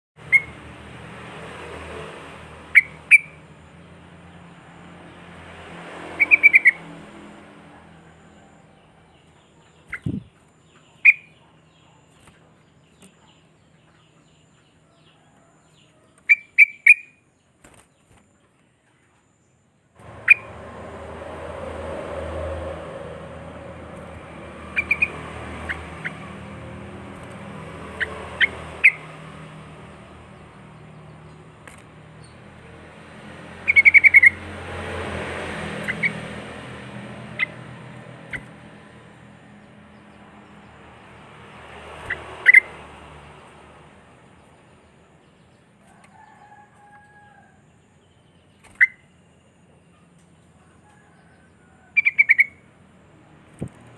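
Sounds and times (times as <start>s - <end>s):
bird chirping calls: 0.2s - 0.7s, 2.6s - 5.3s, 6.0s - 7.0s, 8.2s - 19.2s, 20.0s - 21.0s, 22.8s - 52.7s.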